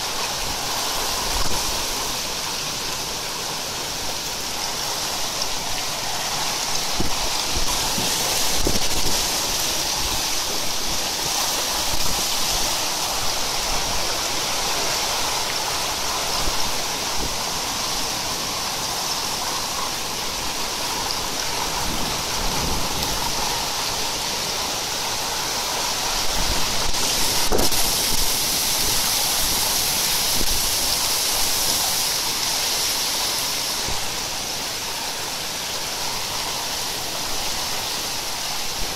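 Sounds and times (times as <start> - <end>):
torrential rain pouring: 0.0 - 38.9.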